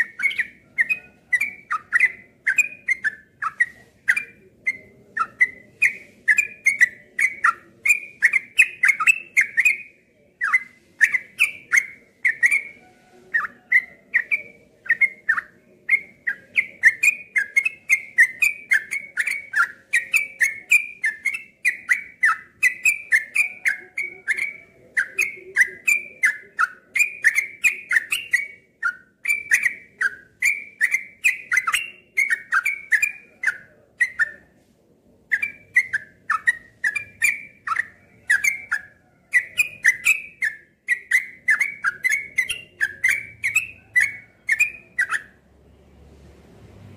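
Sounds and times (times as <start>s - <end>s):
bulbul singing whistled notes: 0.0s - 34.4s, 35.3s - 45.4s.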